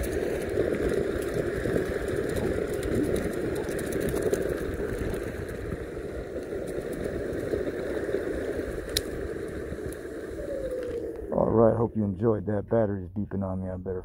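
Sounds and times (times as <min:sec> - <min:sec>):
skateboard wheels rumbling on dirt: 0:00.0 - 0:14.0.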